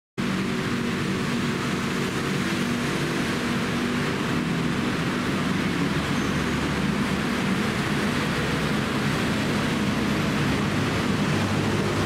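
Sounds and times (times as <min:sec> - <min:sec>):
electric train humming: 0:00.2 - 0:12.0.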